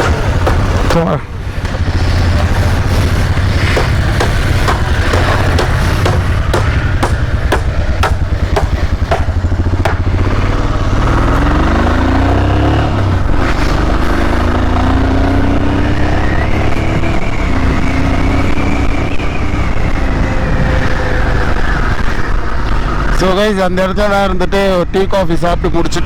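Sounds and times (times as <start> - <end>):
motorcycle engine accelerating: 0.0 - 23.2.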